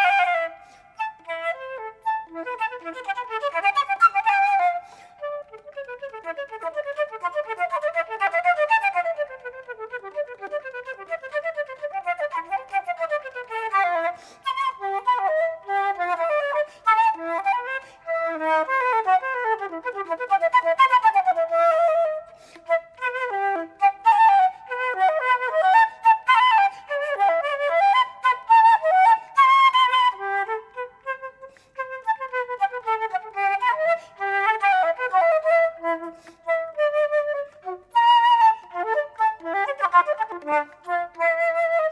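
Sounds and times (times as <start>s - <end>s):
flute playing fast runs: 0.0s - 41.9s.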